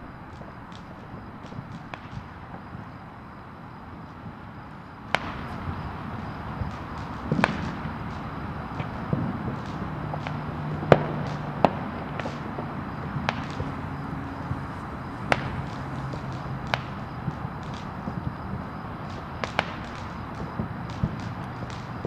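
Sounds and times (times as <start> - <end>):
background rumble: 0.0 - 22.0
distant fireworks popping and banging: 0.0 - 22.0.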